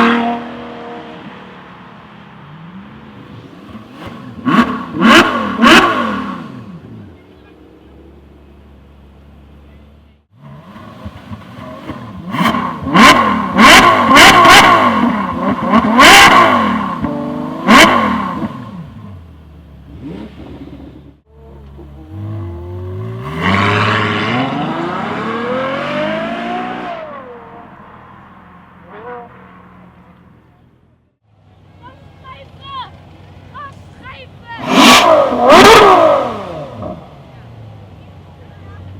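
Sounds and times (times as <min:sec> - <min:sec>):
car engine revving: 0:00.0 - 0:32.2, 0:32.9 - 0:38.9
car accelerating: 0:00.0 - 0:38.9.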